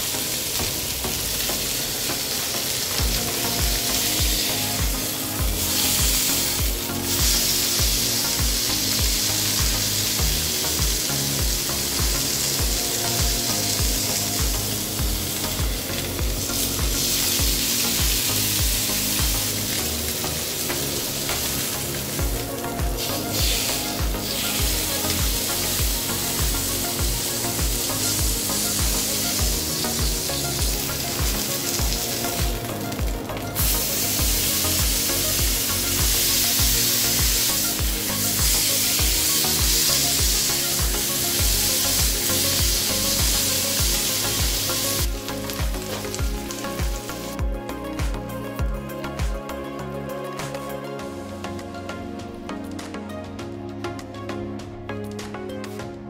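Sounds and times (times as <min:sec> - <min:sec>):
meat sizzling in a grill pan: 0:00.0 - 0:47.5
background music with a beat: 0:00.0 - 0:56.0.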